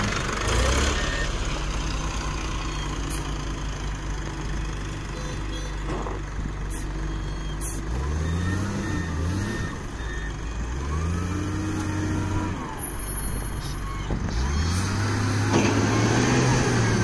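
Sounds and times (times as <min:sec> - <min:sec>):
diesel loader engine revving: 0:00.0 - 0:17.0.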